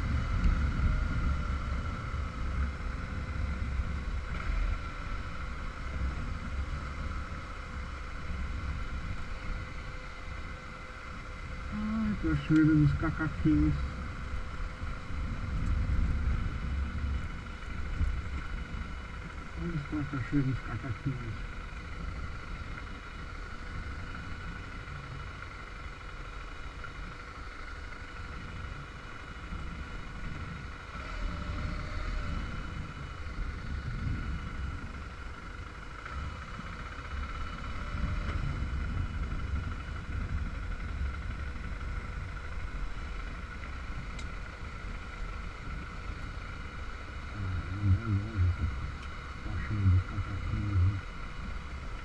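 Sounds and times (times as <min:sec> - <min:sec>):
wind rumble on microphone: 0:00.0 - 0:19.6, 0:26.9 - 0:52.0
motorcycle engine drone: 0:00.0 - 0:52.0.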